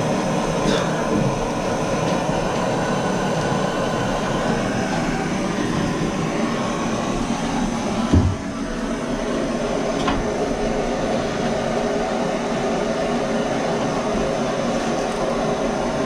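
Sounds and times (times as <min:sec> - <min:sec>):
propane torch burning: 0:00.0 - 0:16.0.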